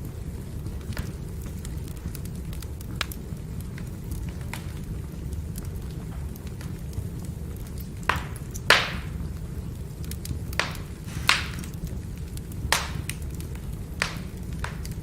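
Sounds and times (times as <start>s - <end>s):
fire crackling pops: 0.0s - 15.0s
firewood burning rumble: 0.0s - 15.0s.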